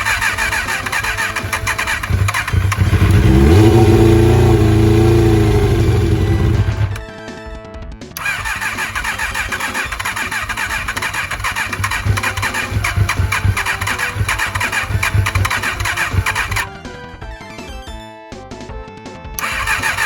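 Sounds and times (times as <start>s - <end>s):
electric starter cranking engine: 0.0s - 7.0s, 8.2s - 16.7s, 19.4s - 20.0s.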